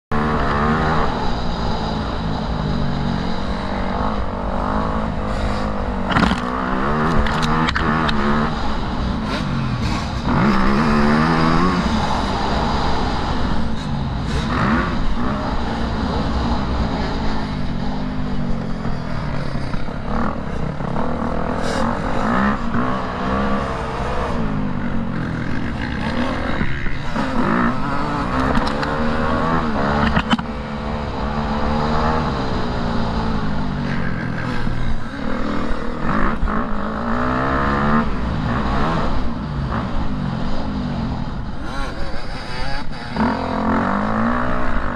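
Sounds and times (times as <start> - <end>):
motocross bike engine revving: 0.1 - 44.9.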